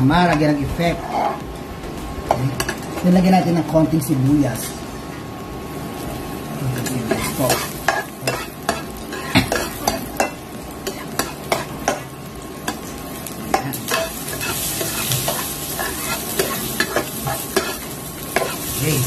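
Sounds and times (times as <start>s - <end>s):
garlic and onion sizzling in oil: 0.0s - 19.0s.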